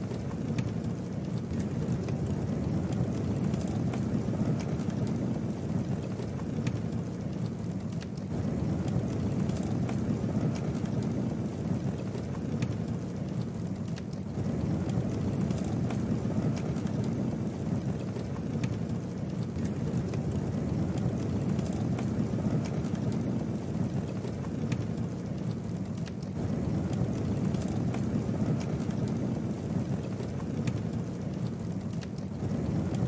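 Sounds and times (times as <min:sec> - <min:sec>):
burning wood crackling and popping: 0:00.0 - 0:33.0
campfire flames rushing: 0:00.0 - 0:33.0.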